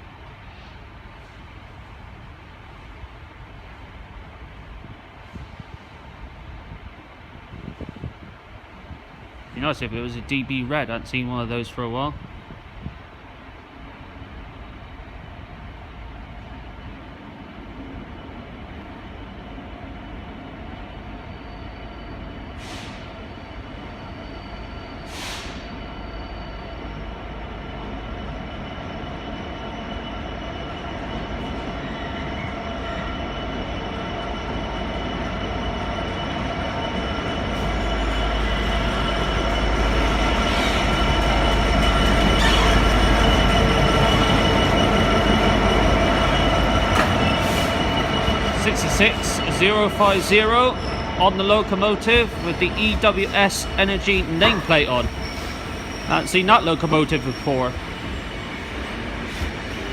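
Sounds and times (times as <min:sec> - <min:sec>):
diesel locomotive engine: 0:00.0 - 0:59.9
train low rumble: 0:00.0 - 0:59.9.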